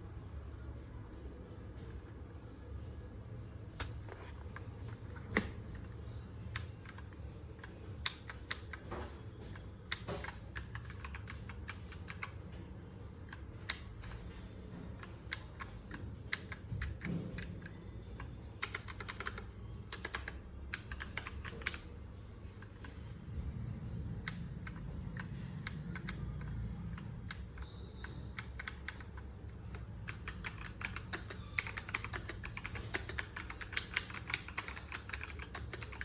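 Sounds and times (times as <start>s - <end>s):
mechanical keyboard typing: 3.7s - 23.2s, 23.9s - 36.0s.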